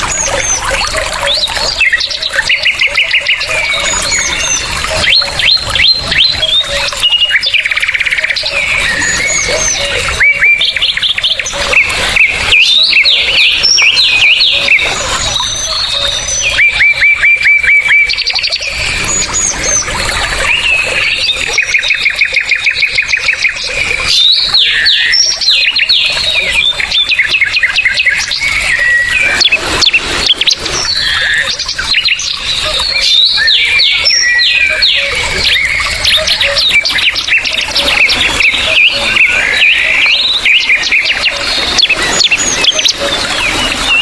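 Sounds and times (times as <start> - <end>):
bird trill: 0.0 - 44.0
many birds chirping: 0.0 - 44.0.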